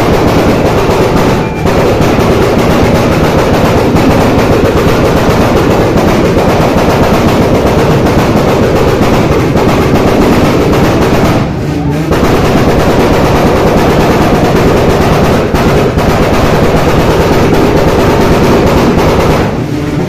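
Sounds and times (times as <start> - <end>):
rattling gunfire-like exhaust: 0.0 - 20.0
car engine revving hard: 0.2 - 20.0.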